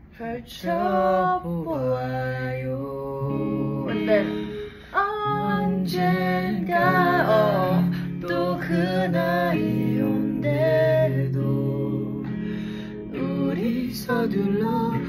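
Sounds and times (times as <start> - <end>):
guitar accompaniment: 0.0 - 15.0
woman singing slow melody: 0.1 - 15.0.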